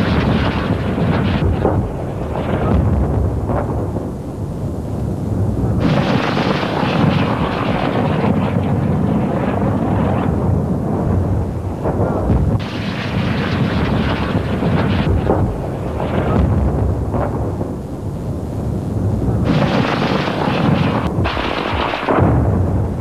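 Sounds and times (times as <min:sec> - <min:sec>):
heavy artillery rumble: 0:00.0 - 0:23.0.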